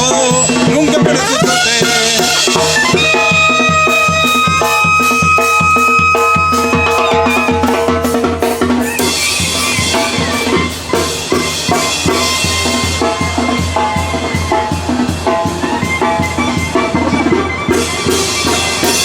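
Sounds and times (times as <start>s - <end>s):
music with fast drum beat: 0.0s - 19.0s.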